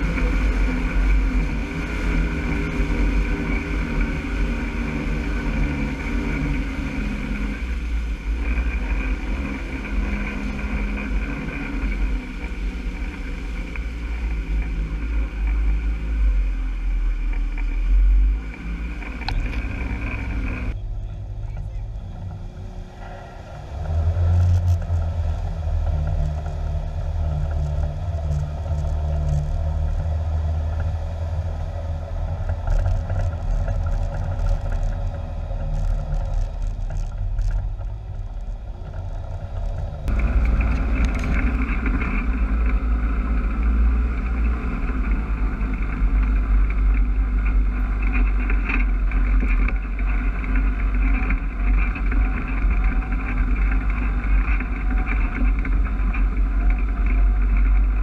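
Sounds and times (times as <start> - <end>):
utility vehicle engine running: 0.0 - 58.0.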